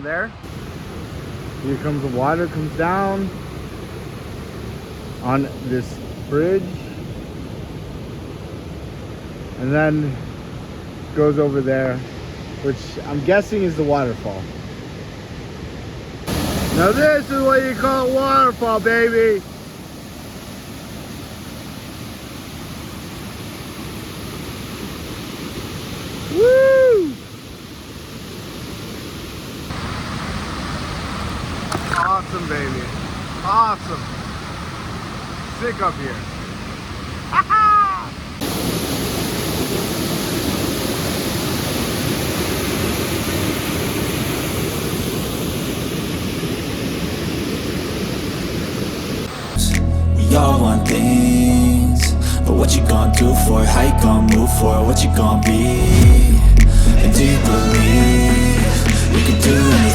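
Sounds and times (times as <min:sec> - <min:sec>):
waterfall rushing: 0:00.0 - 0:10.9, 0:16.2 - 0:59.9.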